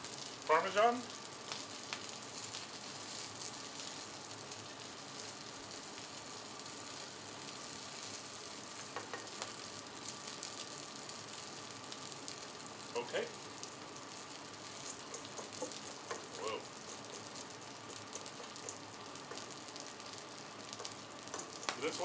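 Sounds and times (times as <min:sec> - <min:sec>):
chicken wings sizzling on griddle: 0:00.0 - 0:22.0.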